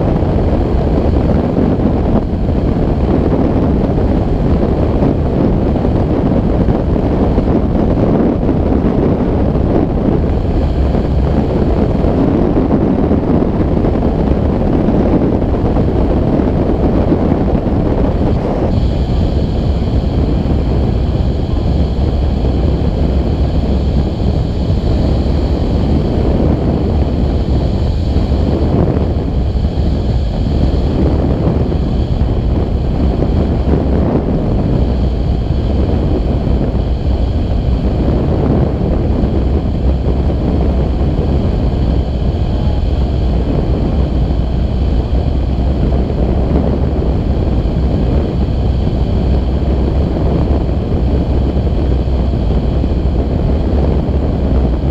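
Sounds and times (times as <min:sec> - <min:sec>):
faint high whine: 0:00.0 - 0:54.9
wind buffeting microphone: 0:00.0 - 0:54.9.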